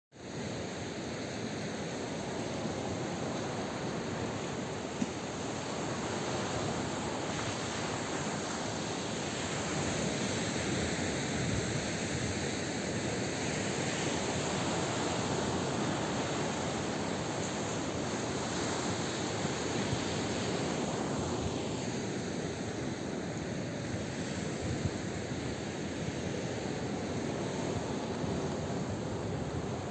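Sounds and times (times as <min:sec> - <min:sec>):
wind: 0:00.1 - 0:29.9.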